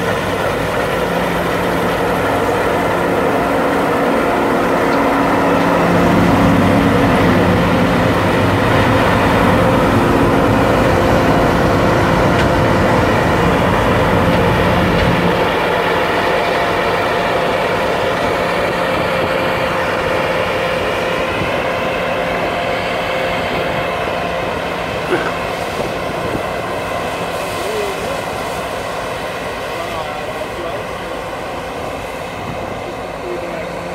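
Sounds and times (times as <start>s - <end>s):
diesel engine running: 0.0s - 33.9s
machinery whine: 0.0s - 33.9s.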